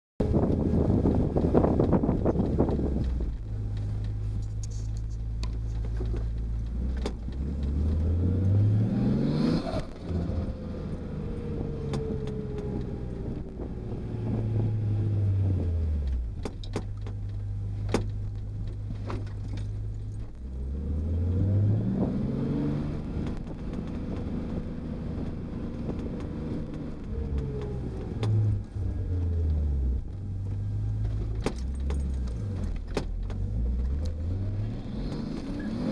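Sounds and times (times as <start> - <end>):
car engine revving in cabin: 0.2 - 35.9.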